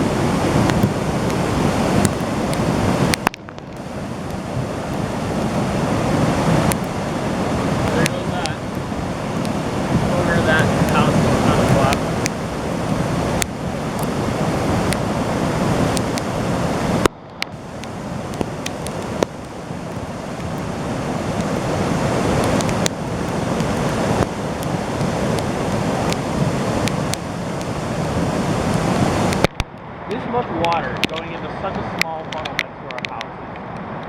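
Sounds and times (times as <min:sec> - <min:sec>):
floodwater rushing: 0:00.0 - 0:34.0
wind buffeting microphone: 0:00.0 - 0:34.0.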